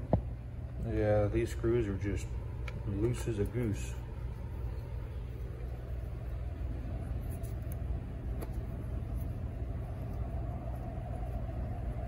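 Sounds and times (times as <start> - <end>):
workshop background rumble: 0.0 - 12.0.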